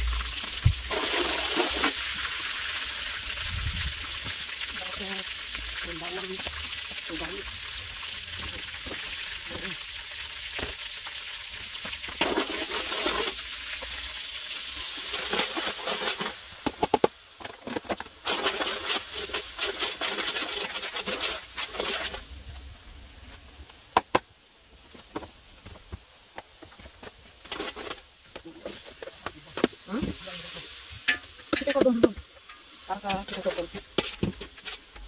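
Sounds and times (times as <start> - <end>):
oil sizzling in a wok: 0.0 - 24.0, 26.6 - 35.0.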